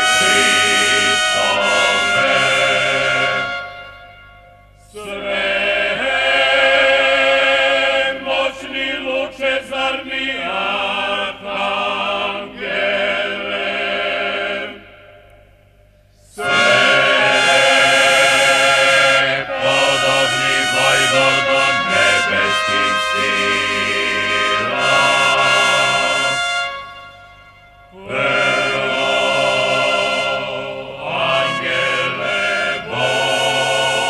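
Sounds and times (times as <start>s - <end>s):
choir chanting: 0.0s - 3.8s, 4.8s - 15.2s, 16.3s - 26.8s, 27.9s - 34.0s.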